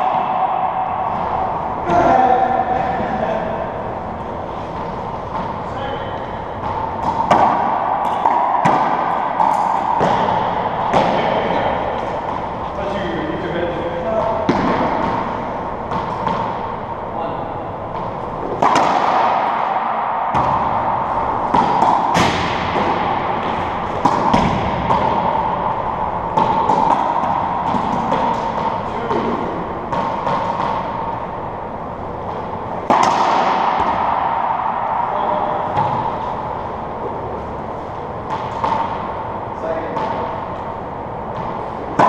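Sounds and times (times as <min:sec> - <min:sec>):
racquetball hits echoing: 0:00.0 - 0:42.0.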